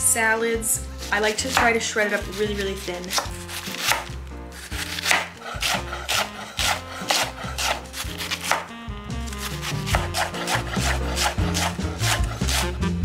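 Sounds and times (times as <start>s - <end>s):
knife cutting on wooden board: 1.0s - 12.8s.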